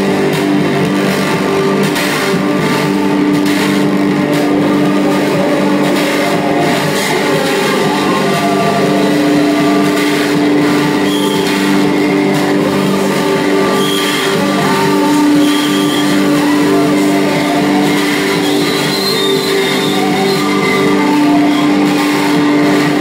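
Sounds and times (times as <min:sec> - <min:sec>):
short high electronic tones: 0:00.0 - 0:23.0
sustained electronic drones: 0:00.0 - 0:23.0.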